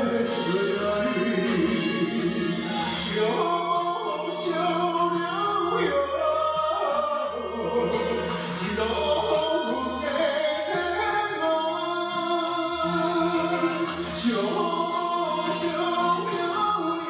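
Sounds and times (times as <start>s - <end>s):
karaoke ballad backing music: 0.0s - 17.0s.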